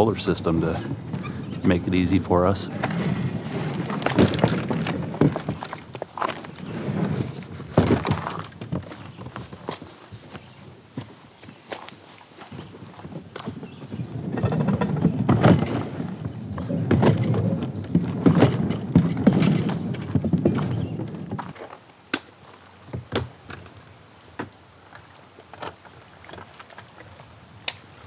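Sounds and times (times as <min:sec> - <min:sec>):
kayak hull rolling on rollers: 0:00.0 - 0:28.0.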